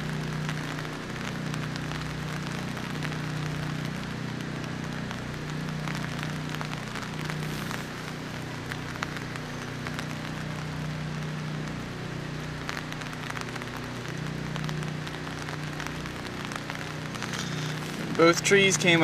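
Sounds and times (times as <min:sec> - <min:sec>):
low steady hum: 0:00.0 - 0:19.0
rain hissing: 0:00.0 - 0:19.0
water drips ticking: 0:00.0 - 0:19.0.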